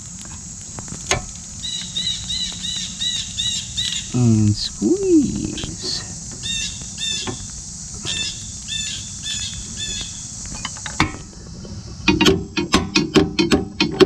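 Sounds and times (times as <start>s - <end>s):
steady high hiss: 0.0s - 13.7s.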